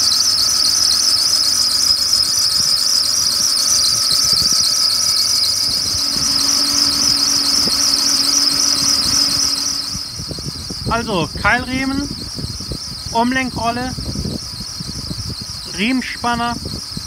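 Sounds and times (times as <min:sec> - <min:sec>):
engine belt squealing: 0:00.0 - 0:17.0.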